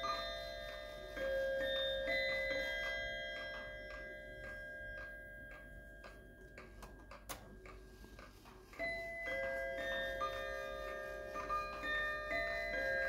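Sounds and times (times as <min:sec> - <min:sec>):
clock chime: 0:00.0 - 0:13.0
wall clock ticking: 0:00.0 - 0:13.0.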